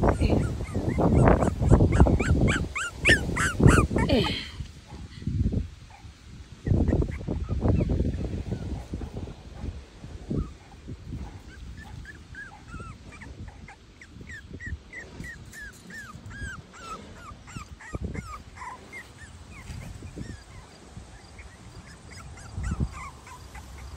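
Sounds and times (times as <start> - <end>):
puppies whimpering and yipping: 0.0 - 4.5, 6.6 - 9.2, 10.3 - 23.9.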